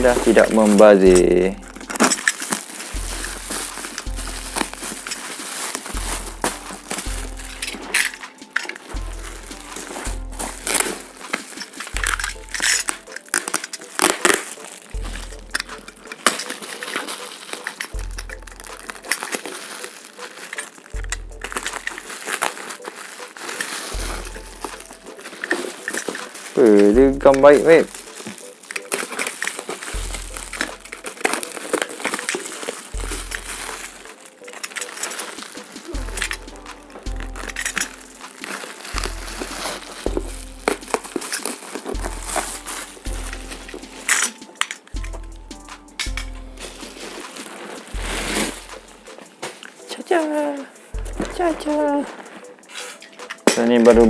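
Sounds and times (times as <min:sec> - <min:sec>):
background music with deep bass: 0:00.0 - 0:54.0
bubble wrap crinkling: 0:00.0 - 0:54.0.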